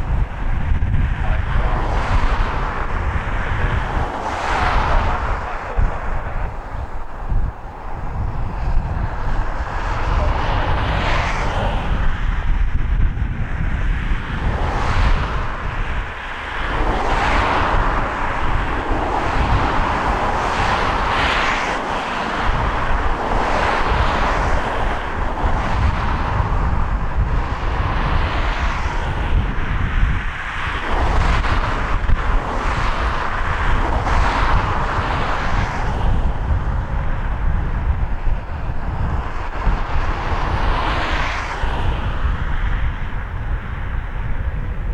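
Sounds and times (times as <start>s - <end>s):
jet engines rushing and rumbling: 0.0s - 44.9s.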